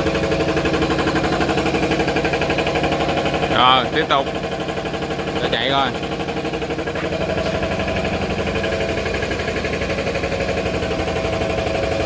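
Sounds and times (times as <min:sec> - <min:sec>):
machine drone with fast pulsing: 0:00.0 - 0:12.0.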